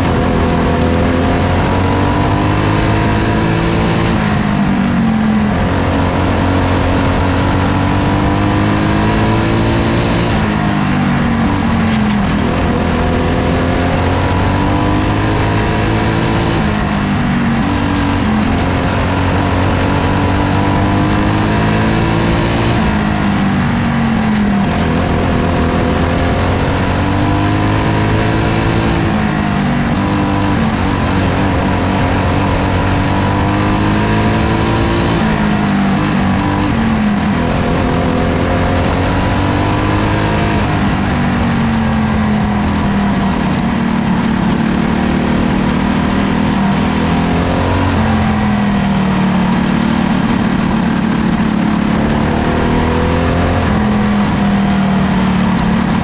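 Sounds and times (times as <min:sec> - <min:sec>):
race car engine revving: 0:00.0 - 0:56.0
wind and track noise: 0:00.0 - 0:56.0.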